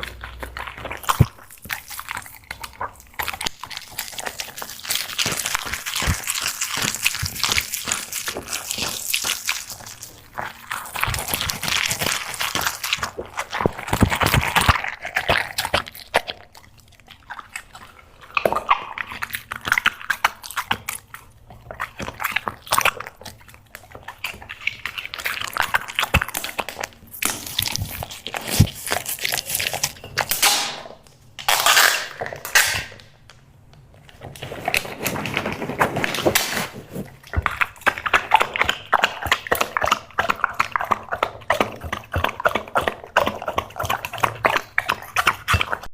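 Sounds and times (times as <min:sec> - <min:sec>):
dog chewing and crunching food: 0:00.0 - 0:45.9.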